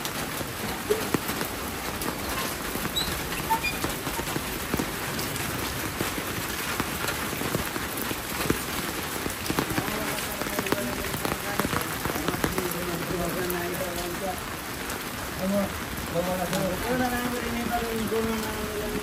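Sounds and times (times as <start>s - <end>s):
heavy rain: 0.0s - 19.0s
sharp raindrop hits: 0.0s - 19.0s.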